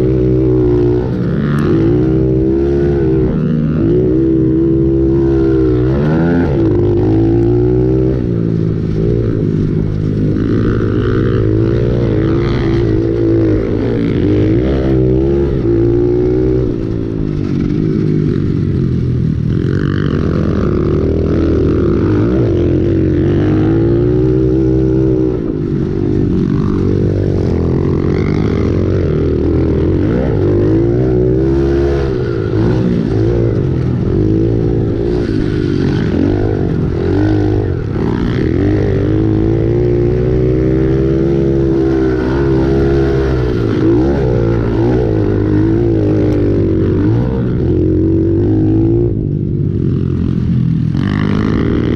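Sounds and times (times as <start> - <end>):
pit bike engine revving: 0.0 - 51.9.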